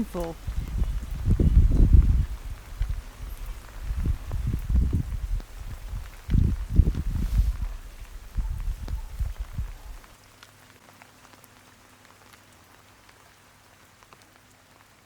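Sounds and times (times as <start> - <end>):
rain drops ticking: 0.0 - 15.0.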